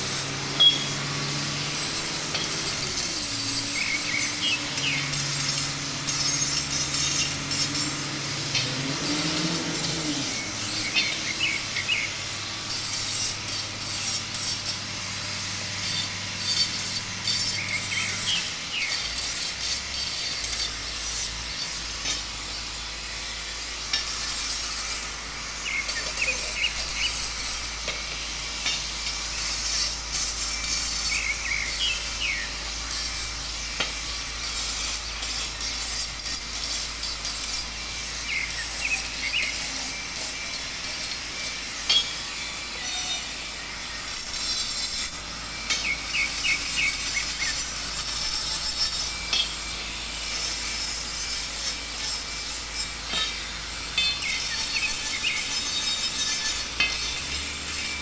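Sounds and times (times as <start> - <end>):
angle grinder grinding metal: 0.0 - 58.0.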